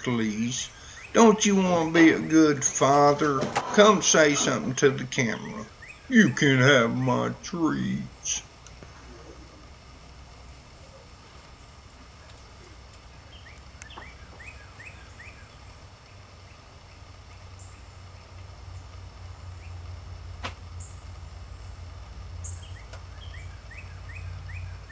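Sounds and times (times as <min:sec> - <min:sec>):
faint bird chirps: 0:00.0 - 0:11.4, 0:12.1 - 0:18.9, 0:22.4 - 0:24.9
steady low hum: 0:00.0 - 0:24.9.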